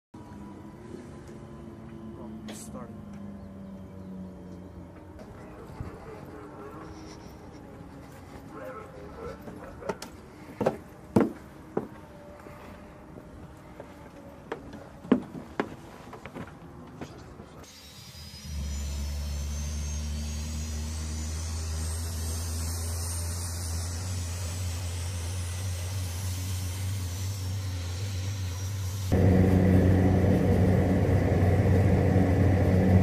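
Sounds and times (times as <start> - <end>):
turboprop engines running: 0.2 - 17.6, 18.3 - 33.0.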